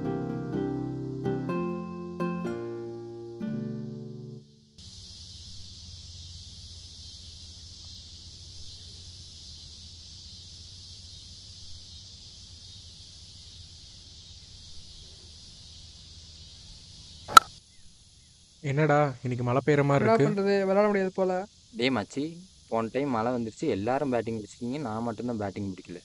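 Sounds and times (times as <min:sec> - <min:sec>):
high hiss: 0:04.7 - 0:26.0.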